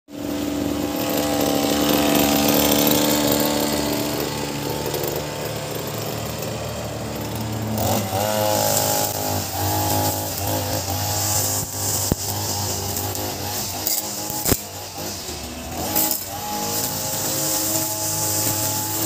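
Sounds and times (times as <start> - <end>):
brush cutter engine running: 0.1 - 19.0.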